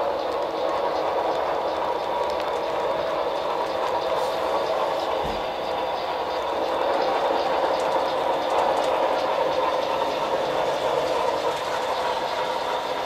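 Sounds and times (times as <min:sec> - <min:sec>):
model train wheels whirring: 0:00.0 - 0:13.0.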